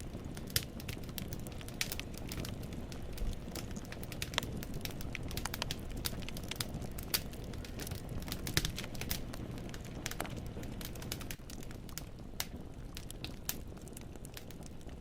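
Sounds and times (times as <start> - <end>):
flames rumbling: 0.0 - 15.0
logs crackling and popping: 0.0 - 15.0.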